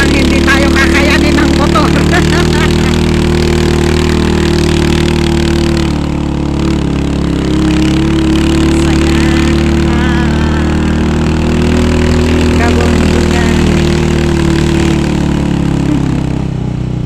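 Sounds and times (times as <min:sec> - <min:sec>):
motorcycle engine climbing: 0:00.0 - 0:17.0.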